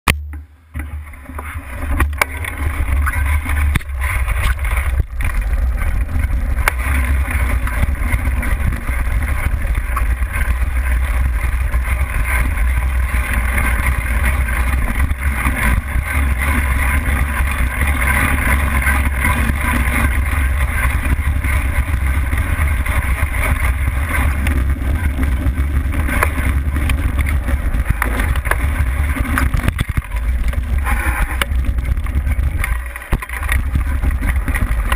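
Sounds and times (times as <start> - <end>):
bike rattles and knocks: 0.1 - 34.9
tyres rolling on dirt: 0.1 - 34.9
wind rumble on camera: 0.1 - 34.9.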